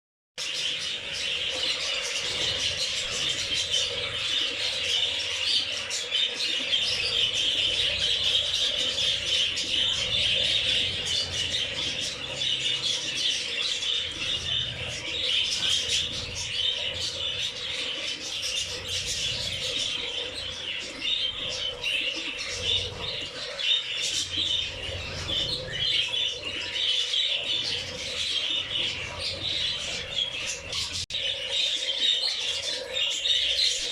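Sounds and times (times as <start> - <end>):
birds chattering and chirping: 0.4 - 33.9.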